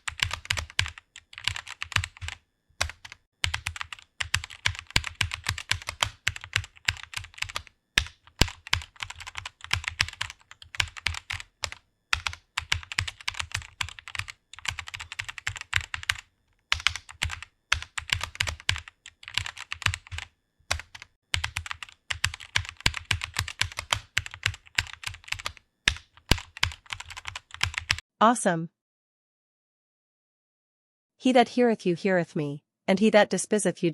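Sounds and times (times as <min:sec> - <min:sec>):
fast typing on computer keyboard: 0:00.0 - 0:28.0.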